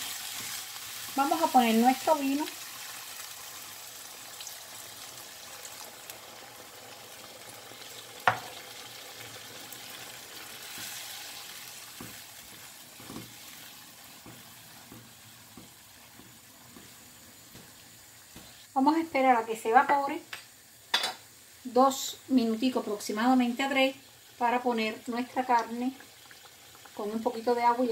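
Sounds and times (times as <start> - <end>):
sauce sizzling in a wok: 0.0 - 27.9.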